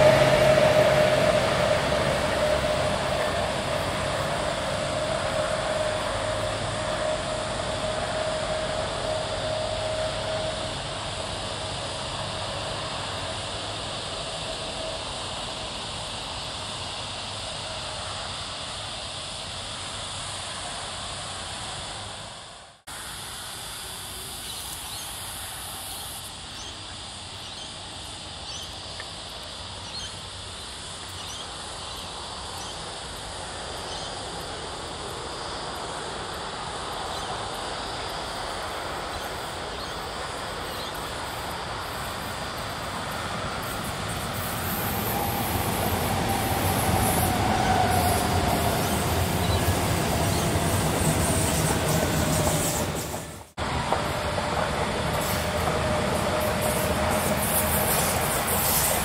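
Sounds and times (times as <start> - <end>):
approaching train: 0.0 - 59.0
outdoor background hiss: 0.0 - 59.0.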